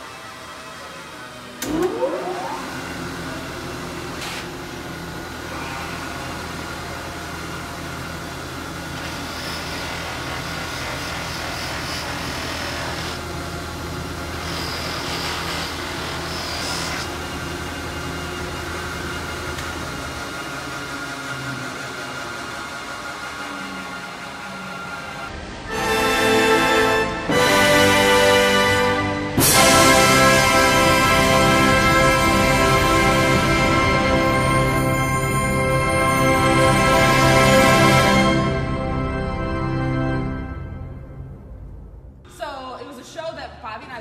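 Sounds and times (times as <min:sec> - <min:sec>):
buffing machine motor whining: 0:00.0 - 0:40.3.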